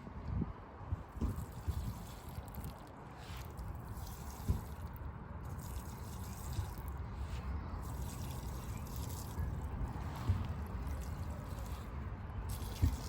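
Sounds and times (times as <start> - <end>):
water trickling and dripping: 1.2 - 7.0, 7.8 - 13.0.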